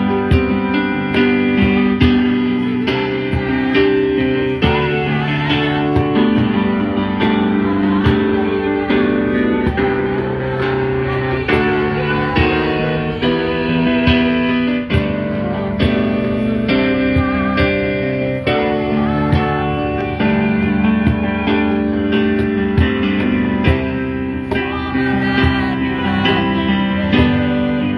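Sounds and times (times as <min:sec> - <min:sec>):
guitar chords strummed: 0:00.0 - 0:27.9.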